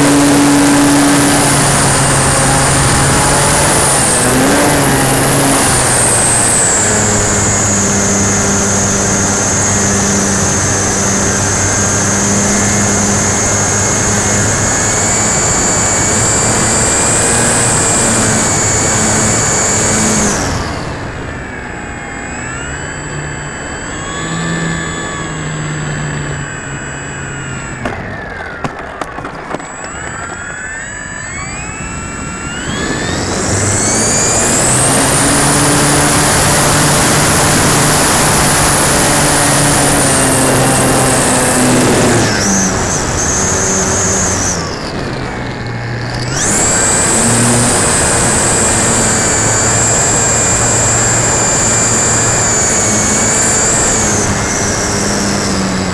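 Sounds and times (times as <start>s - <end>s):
model plane electric motor whine: 0.0s - 55.9s.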